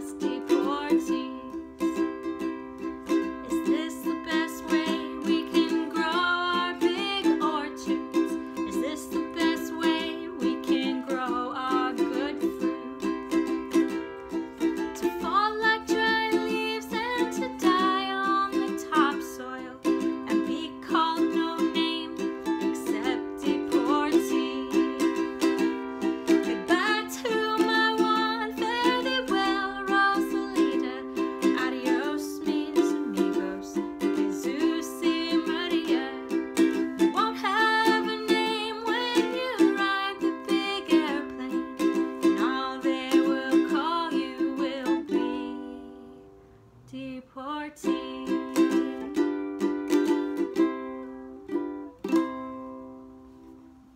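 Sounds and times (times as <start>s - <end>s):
woman singing folk melody: 0.0s - 53.8s
ukulele strumming: 0.0s - 53.9s.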